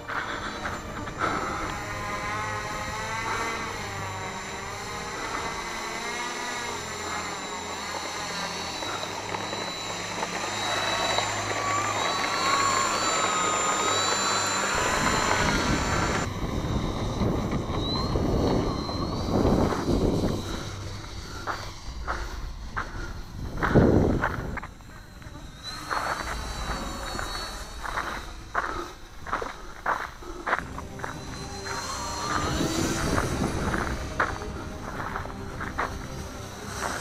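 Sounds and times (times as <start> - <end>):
dense rushing noise: 0.0 - 37.0
model plane electric motor whining: 0.0 - 37.0.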